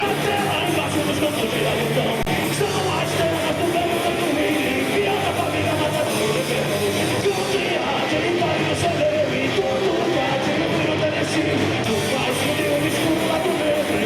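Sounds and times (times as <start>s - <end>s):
person singing: 0.0s - 14.0s
rock band playing live: 0.0s - 14.0s.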